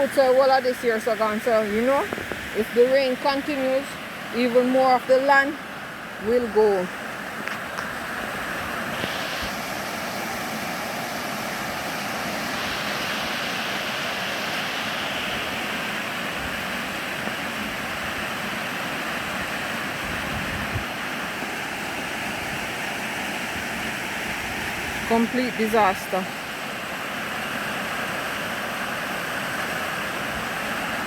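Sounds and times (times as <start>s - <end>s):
fast-flowing river rushing: 0.0s - 31.0s.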